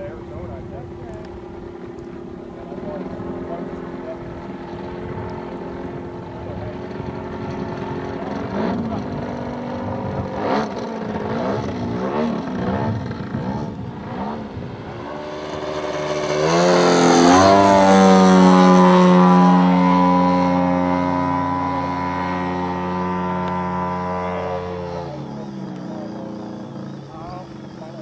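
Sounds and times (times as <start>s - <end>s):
model airplane engine in flight: 0.0s - 28.0s.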